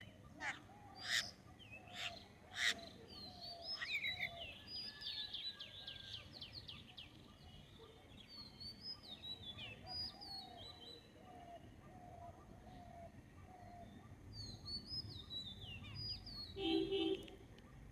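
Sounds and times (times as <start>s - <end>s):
birds chirping and trilling: 0.0s - 17.9s.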